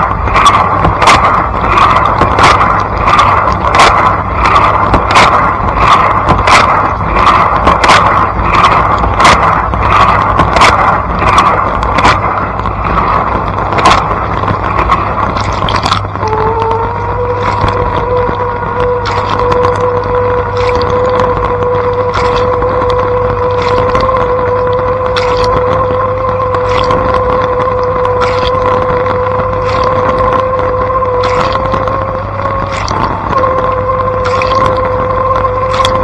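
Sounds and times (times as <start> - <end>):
dishwasher motor hum: 0.0 - 36.0
pump humming tone: 0.0 - 36.0.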